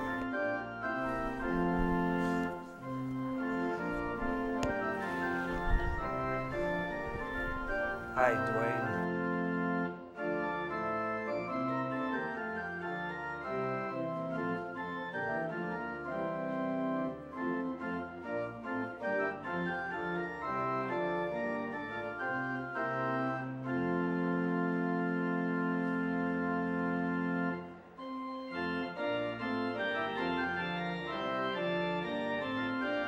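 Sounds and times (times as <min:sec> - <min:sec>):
church organ playing: 0:00.0 - 0:33.0.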